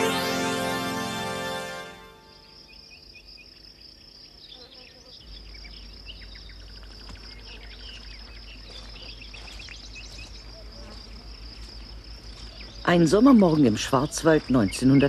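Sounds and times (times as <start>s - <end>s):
insects buzzing: 0.0s - 15.0s
insect chirps: 0.1s - 15.0s.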